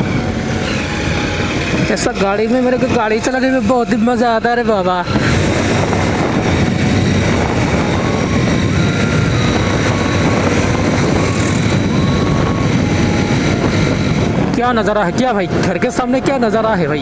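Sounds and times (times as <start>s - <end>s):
motorcycle engine drone: 0.0s - 17.0s
wind rush on microphone: 0.0s - 17.0s.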